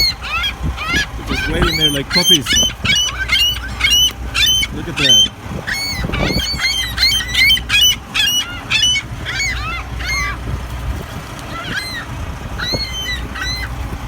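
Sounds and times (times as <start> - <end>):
gulls squawking: 0.0 - 14.0.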